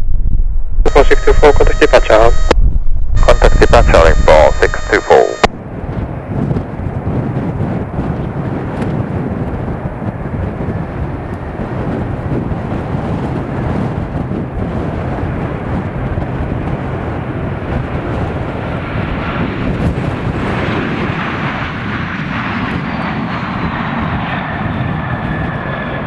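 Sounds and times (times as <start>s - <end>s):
jet engines roaring: 0.9s - 2.5s, 3.2s - 26.0s.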